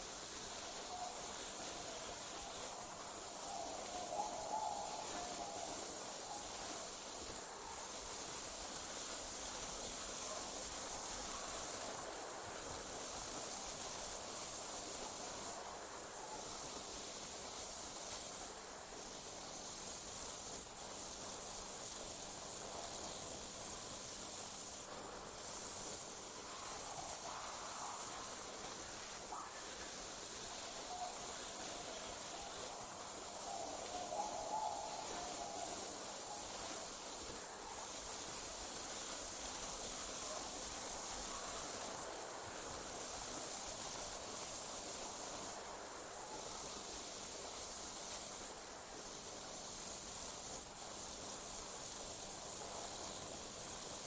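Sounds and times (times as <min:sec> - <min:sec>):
night insects trilling: 0:00.0 - 0:54.0.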